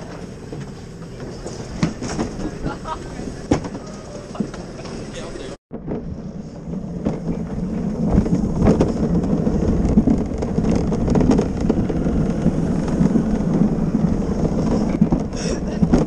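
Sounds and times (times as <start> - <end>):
cart wheels rumbling on pavement: 0.0 - 16.0.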